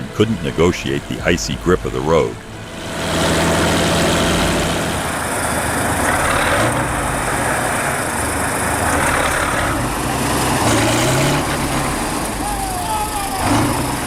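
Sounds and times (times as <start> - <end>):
tractor diesel engine running hard: 0.0 - 14.0.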